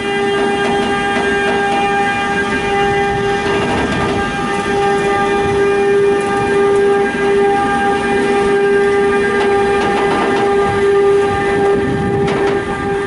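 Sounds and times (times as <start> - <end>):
electric locomotive whine: 0.0 - 13.0
low rumble of train: 0.0 - 13.0.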